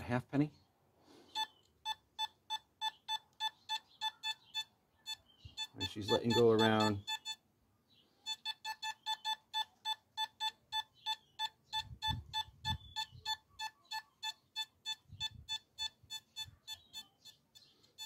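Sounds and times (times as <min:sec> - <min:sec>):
metal detector beeps: 0:01.4 - 0:07.4, 0:08.3 - 0:18.0.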